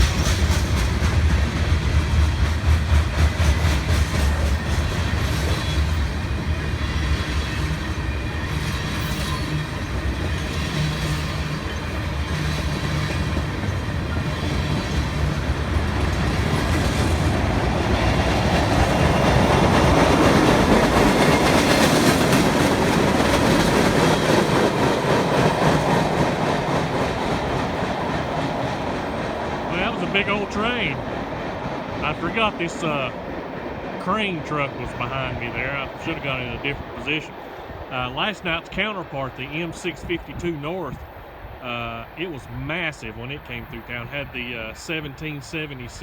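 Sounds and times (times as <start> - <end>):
freight train rolling on rails: 0.0 - 46.0.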